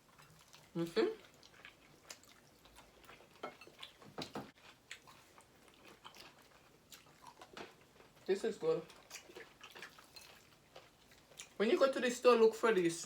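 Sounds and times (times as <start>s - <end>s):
person chewing food: 0.0s - 11.6s.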